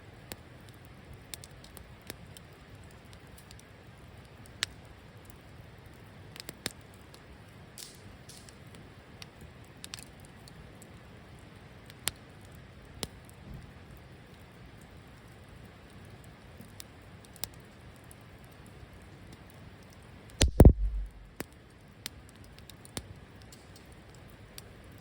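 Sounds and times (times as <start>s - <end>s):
campfire crackling and popping: 0.1s - 25.0s.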